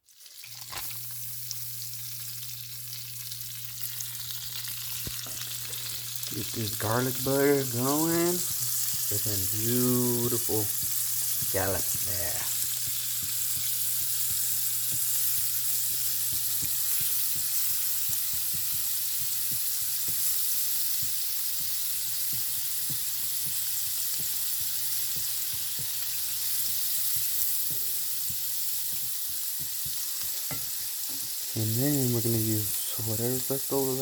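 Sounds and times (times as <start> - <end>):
scallops sizzling in a pan: 0.0 - 34.0.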